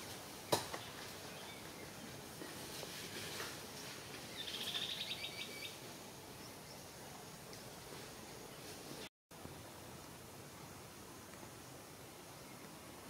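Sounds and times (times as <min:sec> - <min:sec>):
steady woodland hiss: 0:00.0 - 0:13.0.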